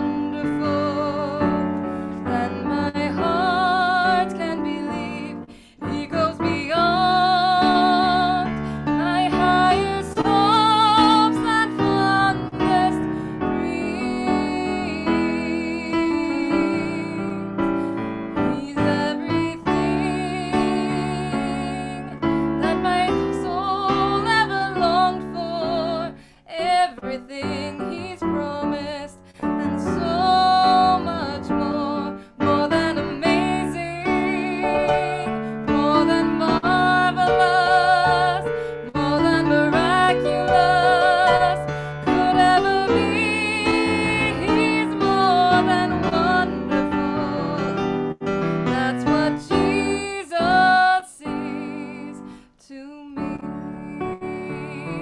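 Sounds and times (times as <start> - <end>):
person singing with vibrato: 0.0 - 55.0
piano accompaniment: 0.0 - 55.0.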